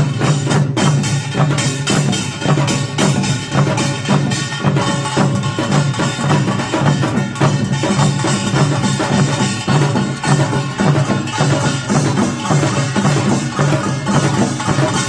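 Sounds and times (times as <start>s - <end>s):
percussion ensemble drumming: 0.0s - 15.0s.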